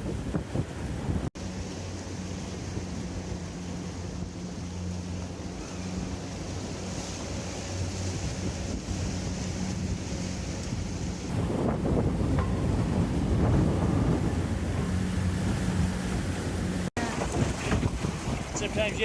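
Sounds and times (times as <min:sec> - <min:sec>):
boat engine humming: 0:00.0 - 0:19.0
water washing past hull: 0:00.0 - 0:19.0
wind buffeting microphone: 0:00.0 - 0:19.0.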